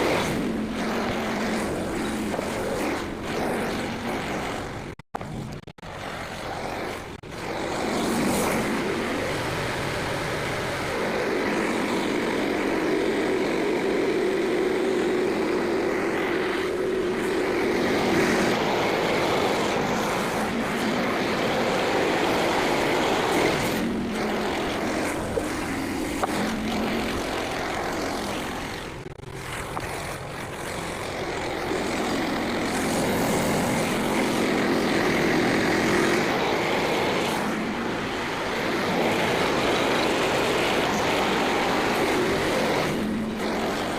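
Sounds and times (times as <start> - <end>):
band sawmill cutting log: 0.0 - 43.9.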